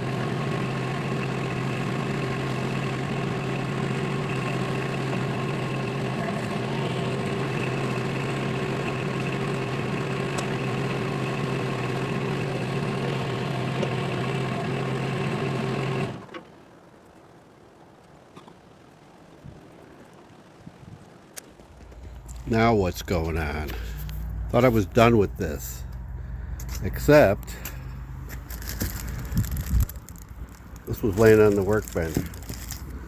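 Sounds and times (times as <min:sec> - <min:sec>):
machine motor humming: 0:00.0 - 0:16.3, 0:21.8 - 0:33.0.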